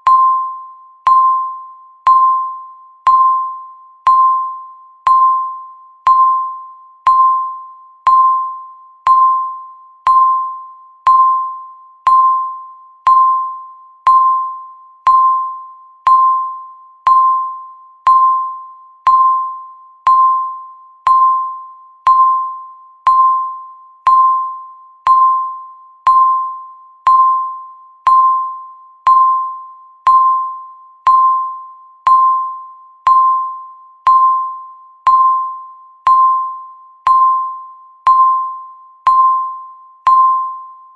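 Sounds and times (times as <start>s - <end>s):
timer beeping: 0.0s - 40.9s.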